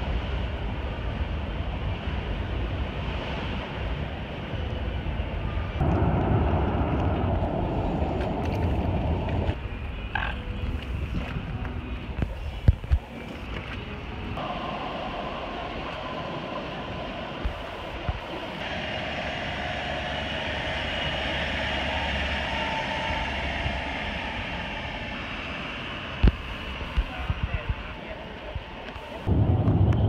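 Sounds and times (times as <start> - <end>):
tram rumbling on rails: 0.0 - 13.0, 13.9 - 30.0
faint whining tones: 5.4 - 30.0.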